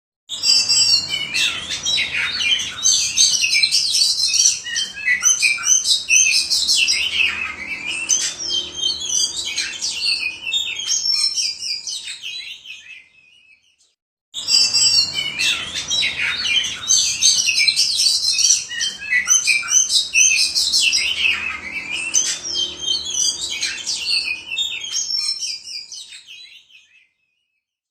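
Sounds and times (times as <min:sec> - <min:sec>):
bird singing chirps and whistles: 0:00.3 - 0:27.1.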